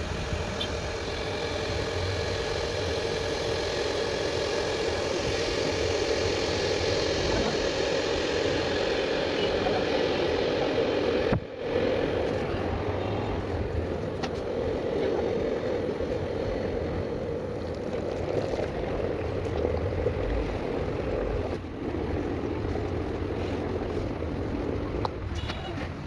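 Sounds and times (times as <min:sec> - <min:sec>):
electric kettle heating water: 0:00.0 - 0:26.0.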